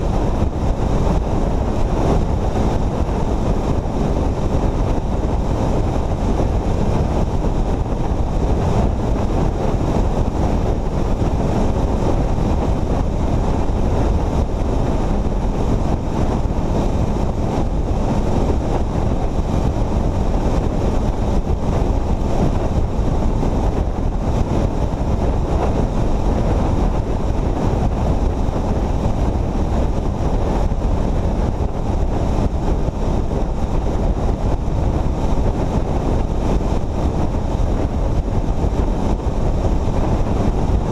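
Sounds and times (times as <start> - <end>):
vehicle road and engine noise: 0.0 - 40.9
wind rushing over microphone: 0.0 - 40.9.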